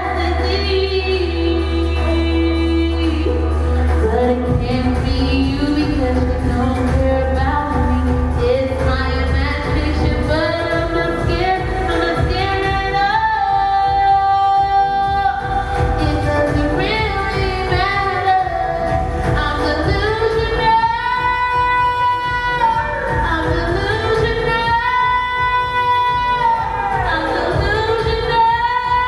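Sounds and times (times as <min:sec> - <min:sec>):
electronic pop backing track: 0:00.0 - 0:29.0.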